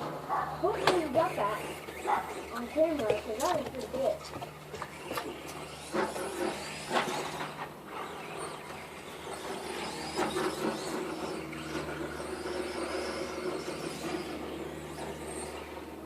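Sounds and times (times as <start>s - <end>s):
electric rc car motor whine: 0.5s - 16.0s.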